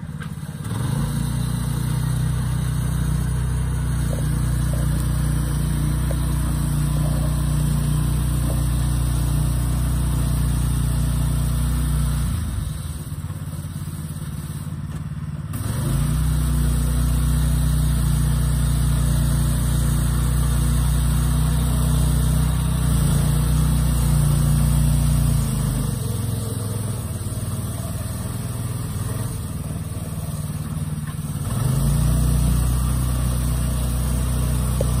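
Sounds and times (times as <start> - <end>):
pickup truck engine revving: 0.0 - 13.2, 15.5 - 35.0.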